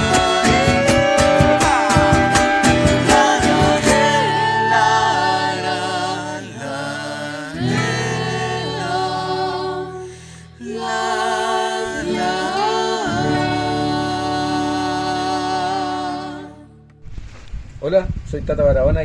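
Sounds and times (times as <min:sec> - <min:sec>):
voices singing gliding notes: 0:00.0 - 0:16.9.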